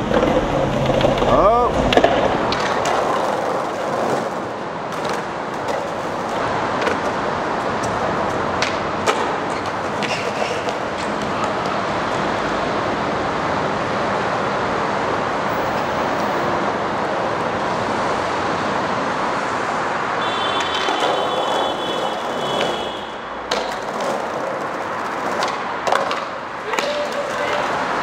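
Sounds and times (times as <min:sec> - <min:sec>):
skateboard wheels rolling on pavement: 0:00.0 - 0:28.0.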